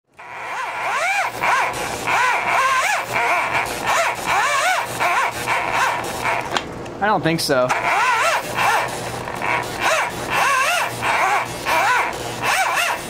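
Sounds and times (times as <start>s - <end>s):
electric drill motor whining: 0.1s - 6.6s, 7.7s - 13.0s.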